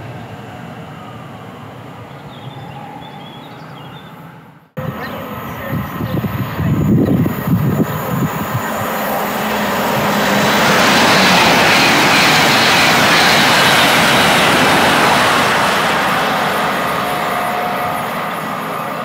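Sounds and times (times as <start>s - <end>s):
train passing at speed: 0.0s - 19.0s.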